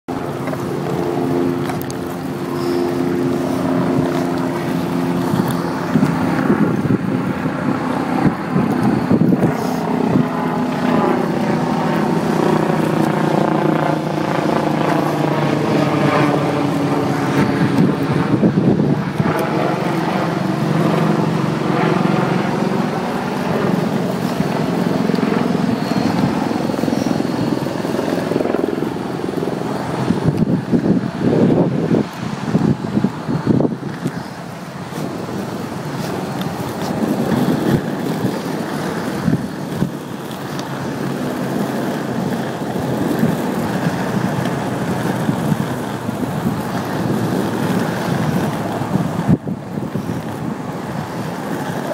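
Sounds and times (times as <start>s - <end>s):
wheels rolling on asphalt: 0.1s - 51.9s
wind rushing over microphone: 0.1s - 51.9s.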